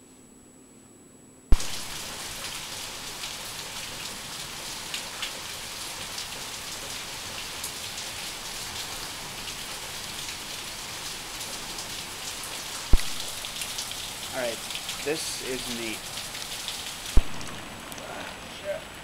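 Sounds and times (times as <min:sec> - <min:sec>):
steady rain falling: 0:01.5 - 0:19.0.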